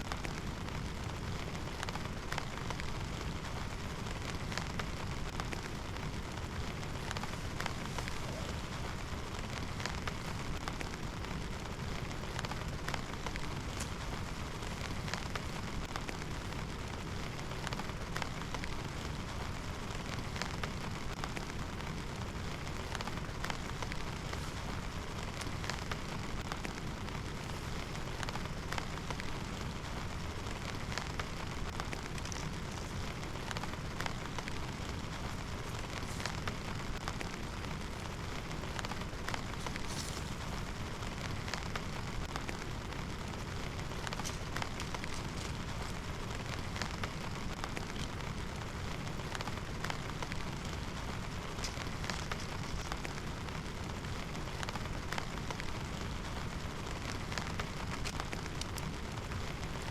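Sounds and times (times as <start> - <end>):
heavy rain falling: 0.0 - 59.9
raindrops ticking: 0.0 - 59.9.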